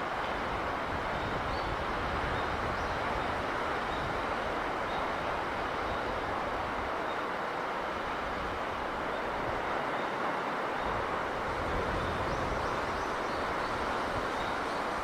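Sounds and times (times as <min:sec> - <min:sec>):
sea breeze: 0:00.0 - 0:15.0
surf rumbling: 0:00.0 - 0:15.0.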